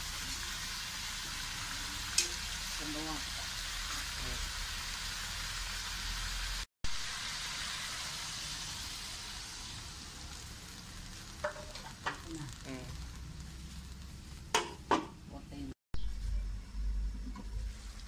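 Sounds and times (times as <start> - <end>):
food sizzling in a wok: 0.0 - 15.3, 17.0 - 18.0.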